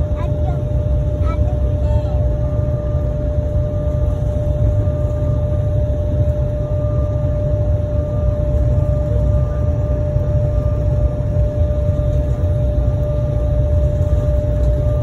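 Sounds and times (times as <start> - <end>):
airliner taxiing rumble: 0.0 - 15.0
steady whine: 0.0 - 15.0.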